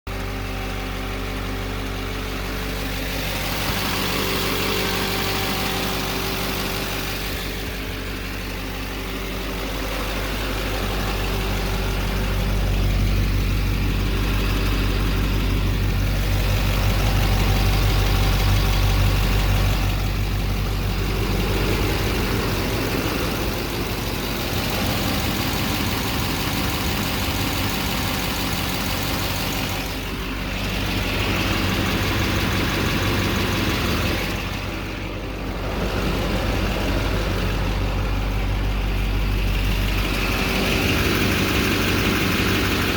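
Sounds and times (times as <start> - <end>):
diesel engine running: 0.1 - 42.9
engine whining: 0.1 - 42.9.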